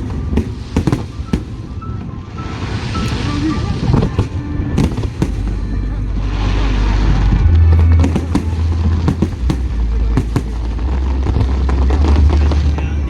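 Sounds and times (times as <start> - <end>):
deep continuous rumble: 0.0 - 13.0
fireworks bangs and crackles: 0.0 - 13.0.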